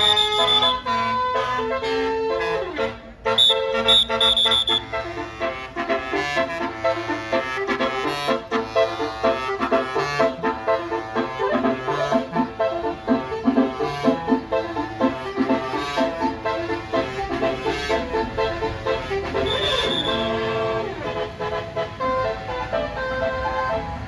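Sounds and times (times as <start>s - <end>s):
bus horn playing a melody: 0.0s - 24.0s.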